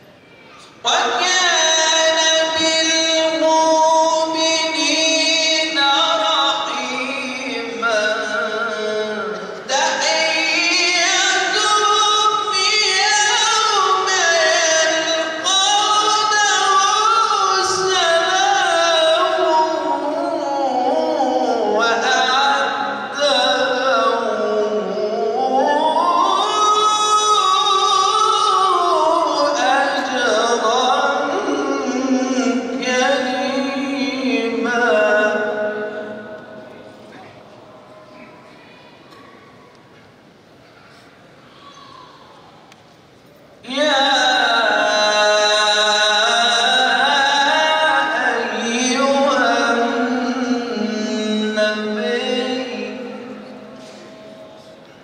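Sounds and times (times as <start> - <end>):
man reciting melodically: 0.6 - 37.6, 43.6 - 54.9.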